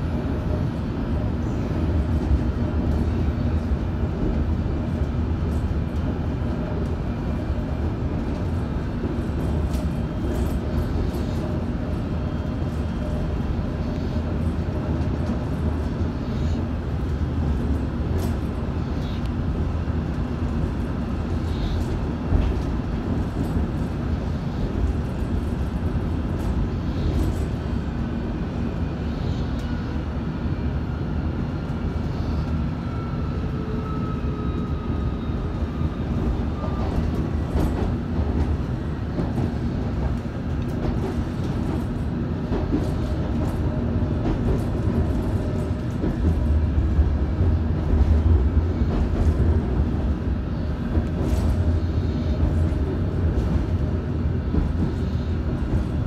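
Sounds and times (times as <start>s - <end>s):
rumble of train wheels on rail: 0.0s - 56.0s.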